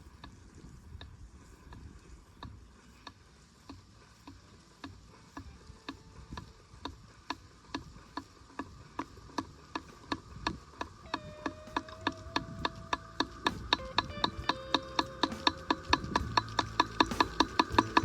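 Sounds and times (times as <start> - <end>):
sprinkler spray ticking on plastic: 0.0 - 18.0.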